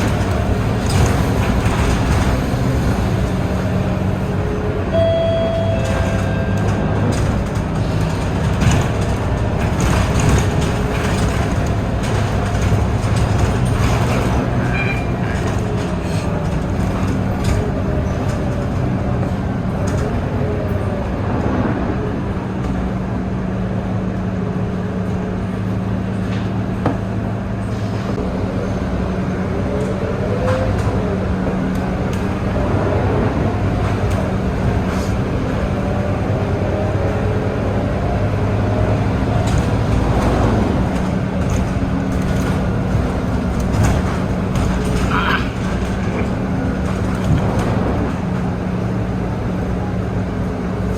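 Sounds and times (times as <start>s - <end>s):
bus diesel engine running: 0.0s - 50.9s
rattles and clicks from bus: 0.0s - 50.9s.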